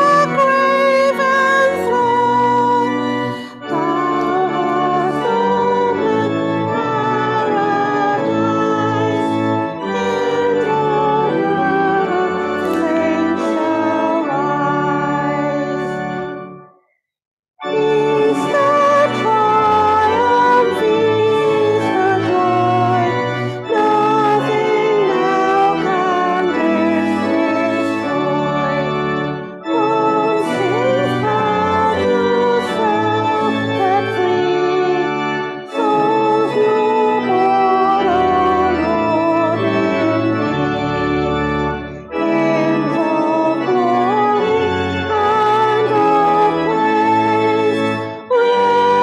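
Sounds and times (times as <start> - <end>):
congregation singing: 0.0 - 16.6, 17.6 - 49.0
organ playing a hymn: 0.0 - 17.0, 17.6 - 49.0.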